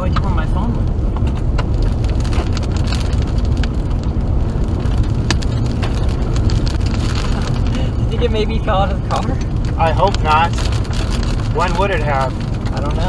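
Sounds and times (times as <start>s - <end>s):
raindrops ticking on car: 0.0s - 13.0s
road and wind noise in car: 0.0s - 13.0s.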